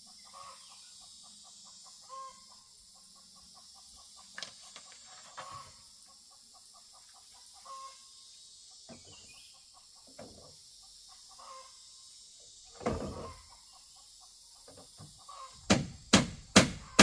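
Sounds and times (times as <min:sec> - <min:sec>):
chickens clucking: 0:00.0 - 0:15.7
steady high hiss: 0:00.0 - 0:17.0.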